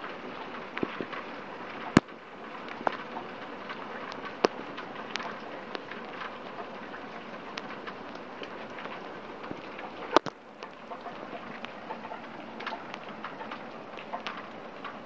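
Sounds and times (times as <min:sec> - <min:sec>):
sharp taps of raindrops: 0:00.0 - 0:15.0.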